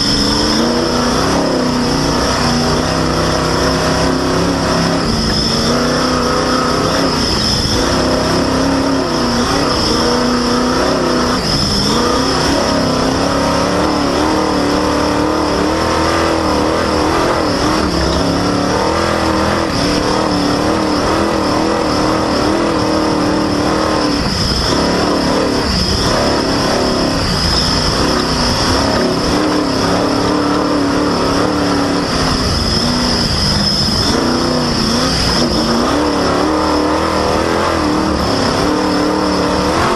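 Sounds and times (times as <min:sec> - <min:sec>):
engine revving: 0:00.0 - 0:39.9
rough rushing noise: 0:00.0 - 0:39.9
slipping drive belt squeal: 0:00.0 - 0:39.9.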